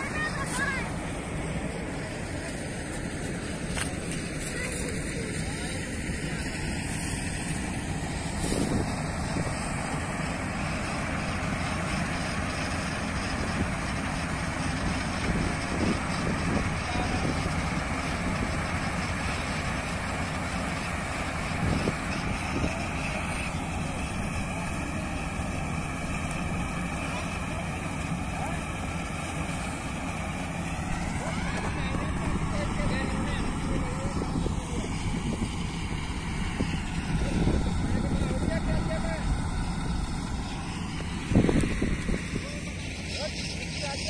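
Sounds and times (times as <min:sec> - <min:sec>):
combine harvester droning: 0:00.0 - 0:44.0.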